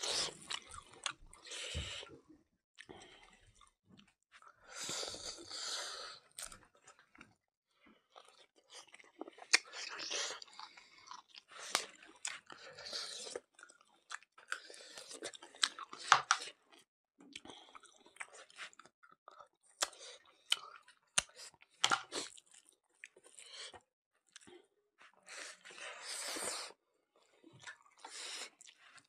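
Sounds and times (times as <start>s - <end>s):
close chewing with mouth smacks: 0.0s - 2.2s, 6.2s - 29.0s.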